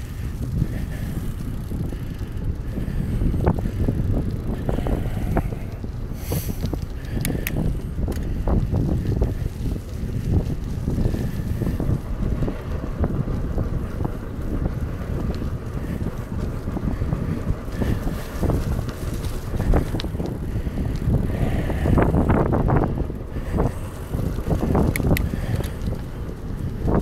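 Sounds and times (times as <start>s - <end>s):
bicycle tyre noise: 0.0s - 27.0s
bike clicks and rattles: 0.0s - 27.0s
wind buffeting microphone: 0.0s - 27.0s.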